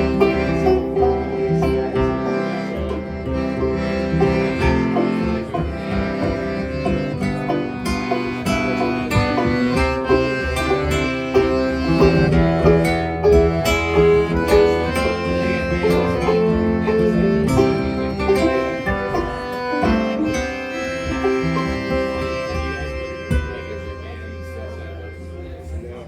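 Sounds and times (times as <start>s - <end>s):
accordion: 0.0s - 26.0s
acoustic guitar: 0.0s - 26.0s
banjo: 0.0s - 26.0s.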